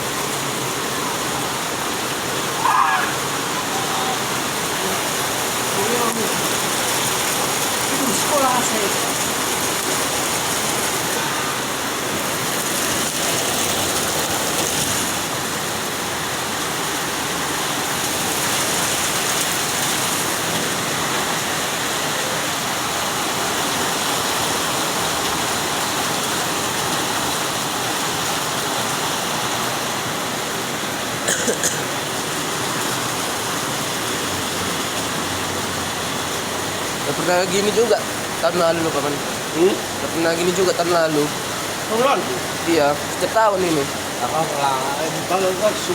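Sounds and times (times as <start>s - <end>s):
flowing floodwater: 0.0s - 45.9s
heavy rain: 0.0s - 45.9s.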